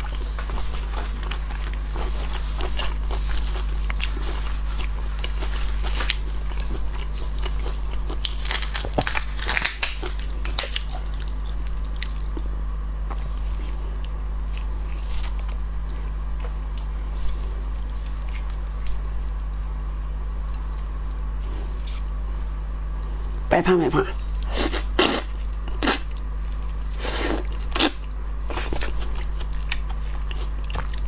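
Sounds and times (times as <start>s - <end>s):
crunching shellfish while eating: 0.0s - 23.4s, 24.2s - 31.0s
steady low hum: 0.0s - 31.0s.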